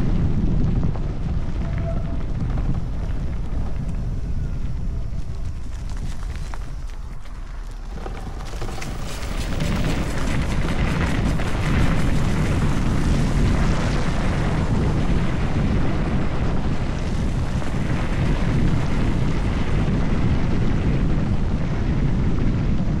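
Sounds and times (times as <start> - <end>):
wind rumble on microphone: 0.0 - 23.0
electric dirt bike running: 2.2 - 22.9.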